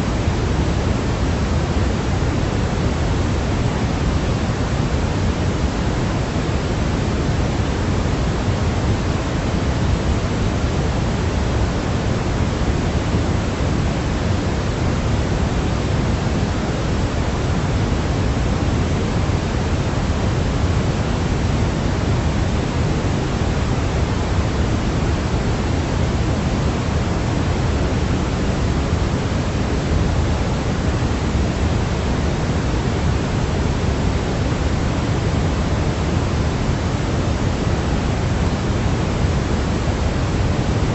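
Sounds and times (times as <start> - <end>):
steady pink noise: 0.0 - 40.9.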